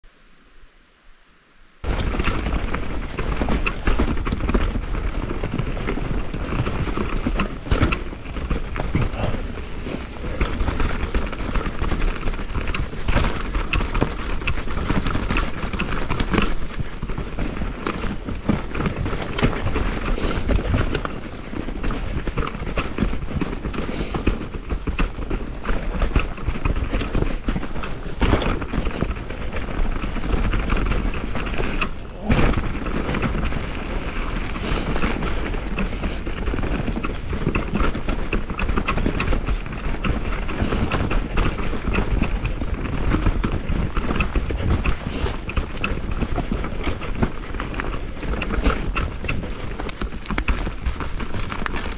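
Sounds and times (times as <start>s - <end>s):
bike rattling and clattering: 1.8s - 51.9s
tyres crunching over rock: 1.8s - 51.9s
wind rumble on microphone: 1.8s - 51.9s.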